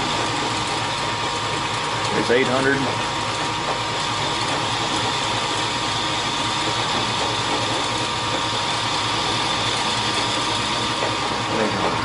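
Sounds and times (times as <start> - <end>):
machine tool boring metal: 0.0 - 12.0
mechanical hum with high whine: 0.0 - 12.0.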